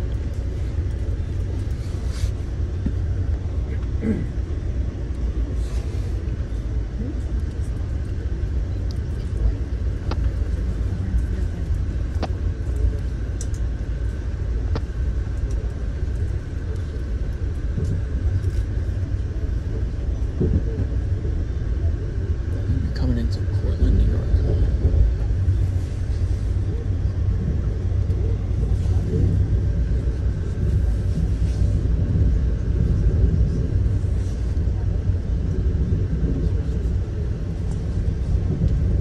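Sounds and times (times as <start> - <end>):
train rumble from inside coach: 0.0 - 39.0.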